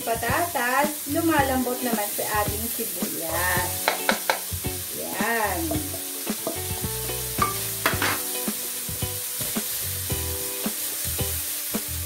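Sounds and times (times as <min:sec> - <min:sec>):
potatoes and onions sizzling in oil: 0:00.0 - 0:12.0.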